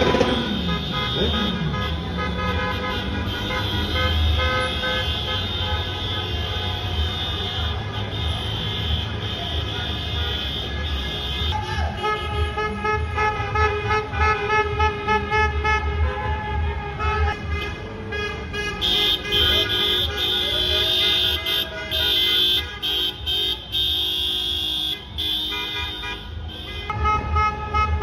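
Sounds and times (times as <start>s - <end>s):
car horns honking: 0.0s - 28.0s.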